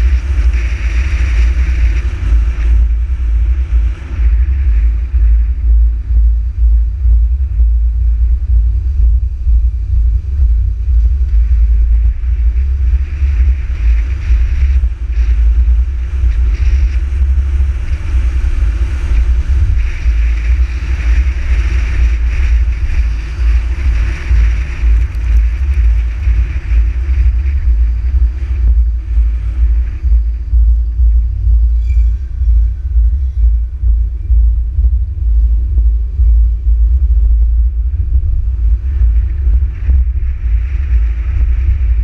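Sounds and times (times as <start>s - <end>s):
wind and engine rumble: 0.0s - 42.0s.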